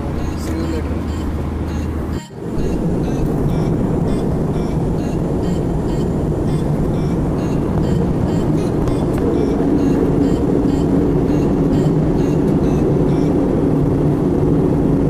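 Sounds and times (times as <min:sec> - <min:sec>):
airliner cabin jet engine rush: 0:00.0 - 0:15.0.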